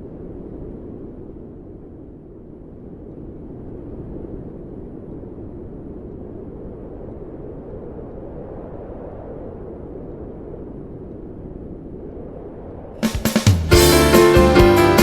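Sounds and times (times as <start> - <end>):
low rushing wind: 0.0 - 13.0.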